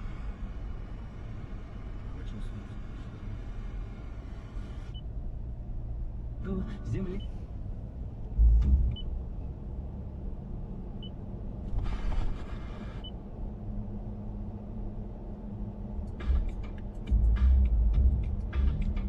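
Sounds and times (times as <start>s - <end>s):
low rumble inside moving car: 0.0s - 19.0s.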